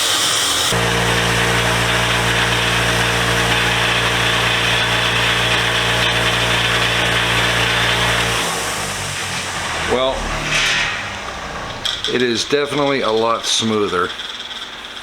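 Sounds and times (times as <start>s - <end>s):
wire wheel grinder rasping hiss: 0.0s - 14.8s.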